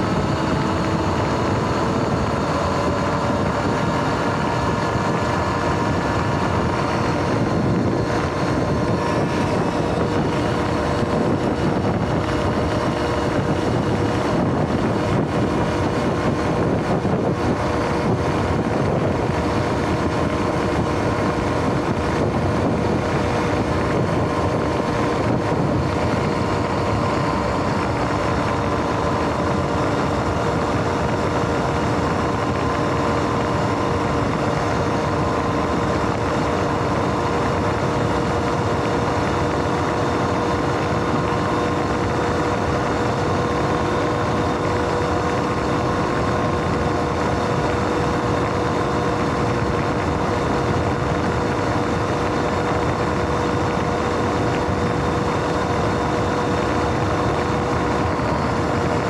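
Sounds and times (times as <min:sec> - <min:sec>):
electric motor whine: 0:00.0 - 0:59.0
rush of riding noise: 0:00.0 - 0:59.0.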